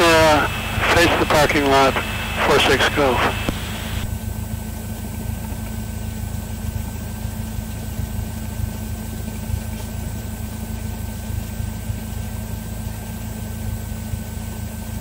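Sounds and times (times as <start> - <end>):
light aircraft engine idling: 0.0 - 15.0.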